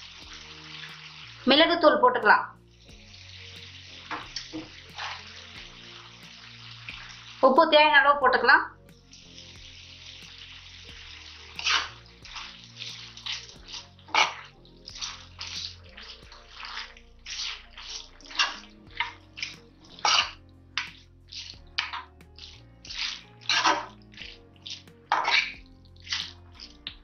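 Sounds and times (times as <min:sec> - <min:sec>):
meat sizzling in a pan: 0:00.0 - 0:01.6, 0:02.5 - 0:07.7, 0:08.7 - 0:27.0.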